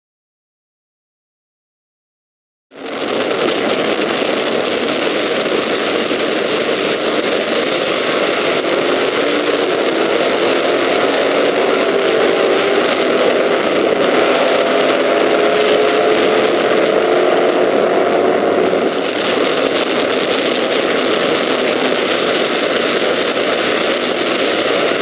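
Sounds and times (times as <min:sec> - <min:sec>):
steady engine tones: 0:02.7 - 0:25.0
drag racing engines roaring: 0:02.8 - 0:25.0.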